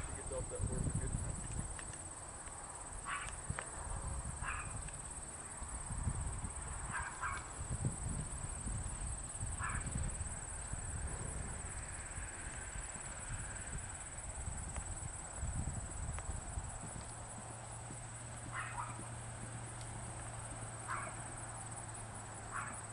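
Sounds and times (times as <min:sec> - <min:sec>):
horse hooves thudding on grass: 0:00.0 - 0:22.9.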